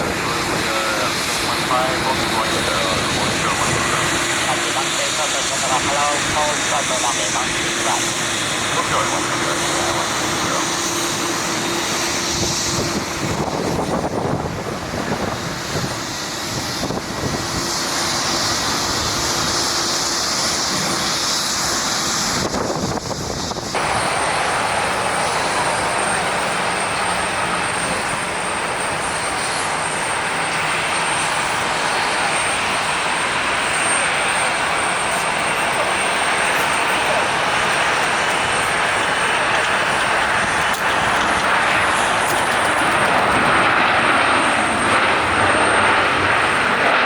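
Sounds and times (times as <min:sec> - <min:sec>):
high whine of landing jet: 0:00.0 - 0:47.0
jet engines roaring: 0:00.0 - 0:47.0.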